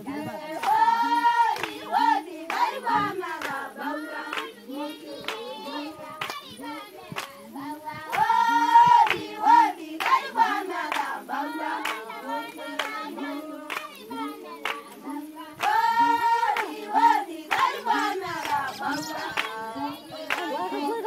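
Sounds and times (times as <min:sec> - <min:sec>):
women singing together: 0:00.0 - 0:21.0
hand claps: 0:00.1 - 0:21.0.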